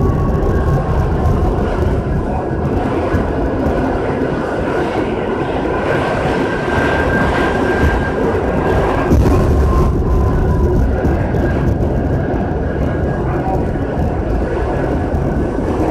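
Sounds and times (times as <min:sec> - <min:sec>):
subway train rumble and rattle: 0:00.0 - 0:15.9.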